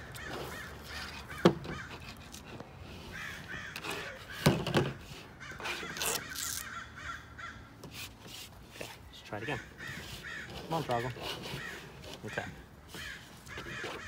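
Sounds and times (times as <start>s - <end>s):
crows cawing: 0.0s - 2.3s, 3.0s - 7.8s, 9.2s - 14.0s.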